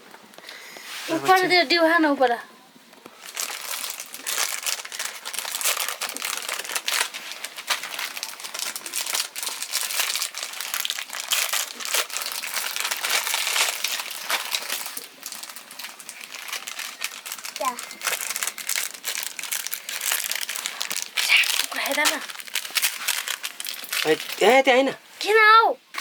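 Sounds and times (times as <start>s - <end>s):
plastic packets crinkling: 3.0s - 24.9s.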